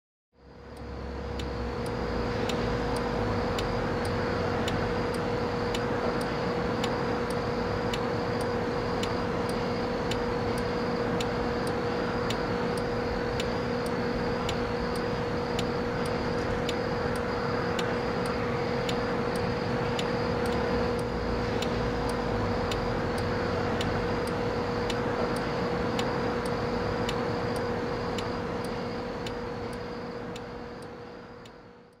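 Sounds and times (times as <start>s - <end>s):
steady mechanical hum: 0.4s - 32.0s
sharp ticking: 0.7s - 31.6s.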